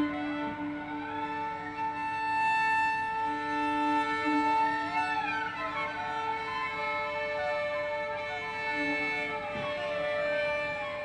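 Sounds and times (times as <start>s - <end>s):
bowed strings music: 0.0s - 11.0s.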